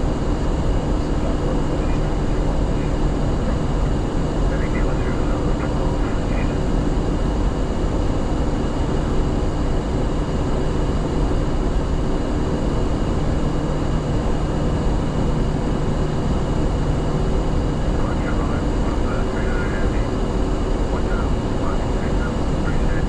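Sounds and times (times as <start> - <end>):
engine and airflow rush: 0.0 - 23.0
faint steady hum: 0.0 - 23.0.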